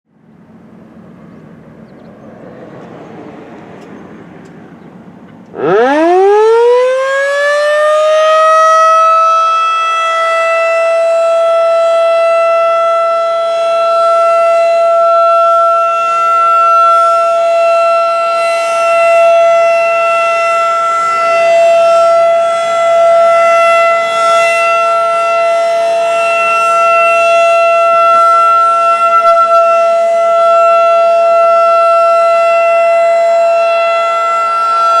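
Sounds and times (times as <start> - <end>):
tornado siren wailing: 0.5 - 35.0.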